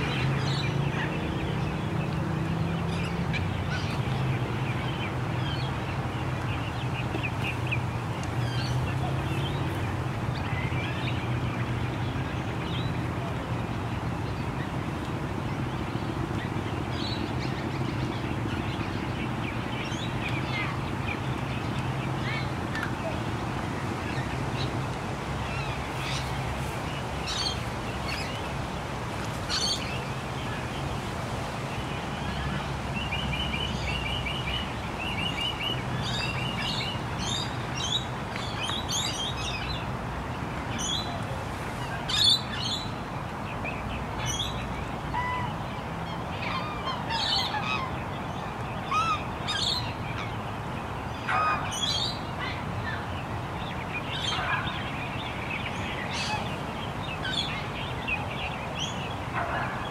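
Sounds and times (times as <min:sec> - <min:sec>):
distant traffic rumble: 0:00.0 - 0:59.9
waterbirds calling: 0:00.0 - 0:59.9.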